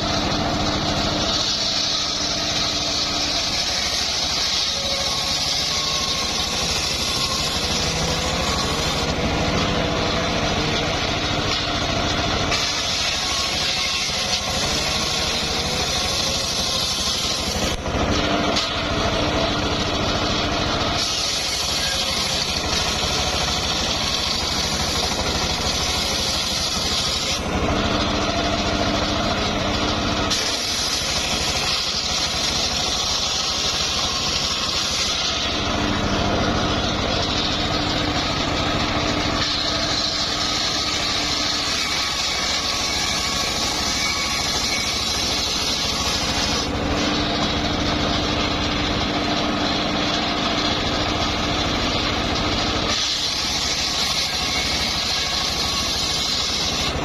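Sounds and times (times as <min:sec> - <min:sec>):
circular sawmill sawing wood: 0:00.0 - 0:57.0.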